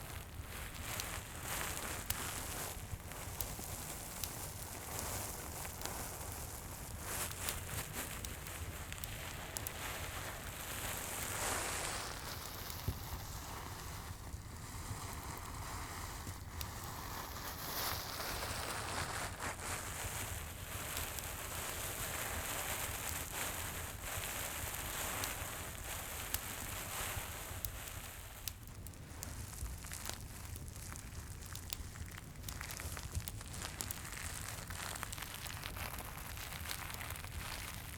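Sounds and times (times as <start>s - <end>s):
crackling fireplace: 0.0s - 37.9s
crinkly item crackling: 0.0s - 37.9s.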